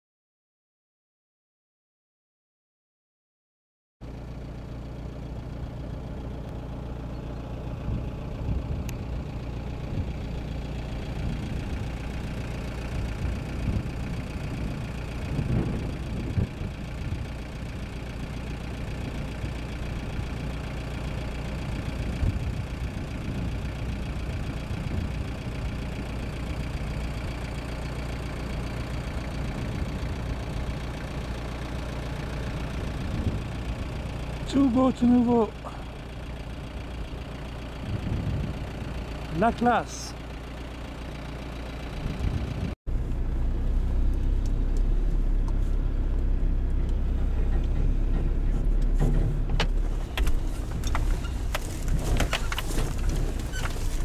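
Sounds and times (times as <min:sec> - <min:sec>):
engine idling: 0:04.0 - 0:54.0.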